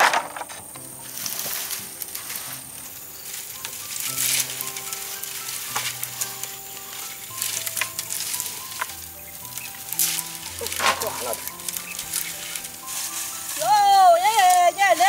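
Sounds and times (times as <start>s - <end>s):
dry vines rustling and crackling: 0.0s - 15.0s
soft instrumental music: 0.0s - 15.0s.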